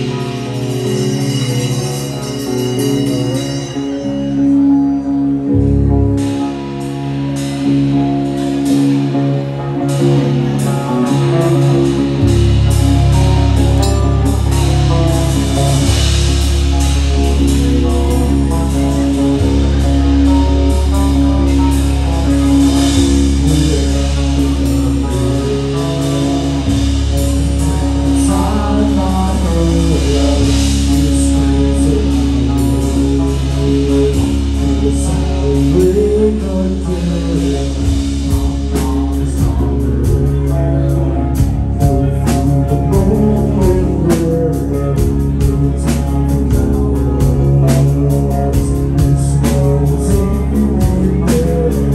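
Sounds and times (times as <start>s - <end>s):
bass guitar: 0.0s - 51.9s
drum kit: 0.0s - 51.9s
electric guitar: 0.0s - 51.9s
person singing: 0.0s - 51.9s.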